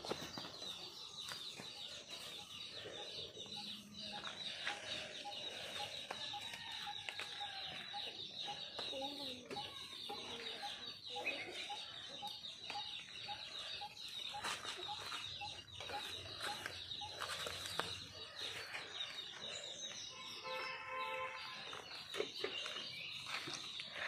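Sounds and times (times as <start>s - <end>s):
chickens clucking: 0.0s - 19.6s.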